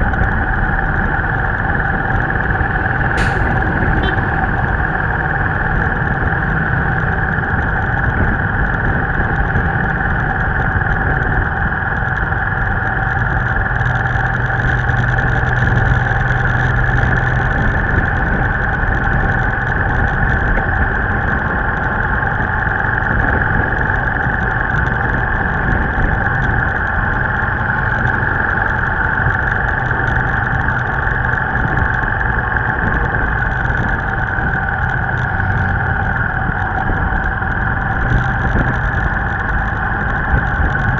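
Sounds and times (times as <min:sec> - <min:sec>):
motorcycle engine and wind noise: 0:00.0 - 0:40.9
trucks passing close: 0:00.0 - 0:40.9.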